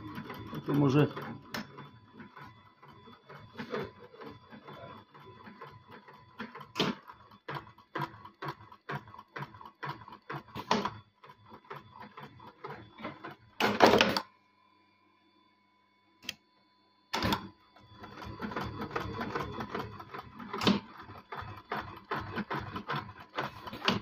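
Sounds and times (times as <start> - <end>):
sewing machine clacking: 0.0 - 14.2, 18.0 - 24.0.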